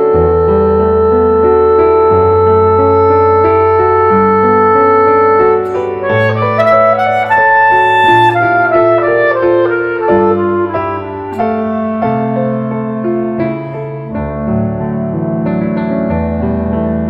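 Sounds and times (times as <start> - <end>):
clarinet melody: 0.0 - 17.0
piano playing: 0.0 - 17.0.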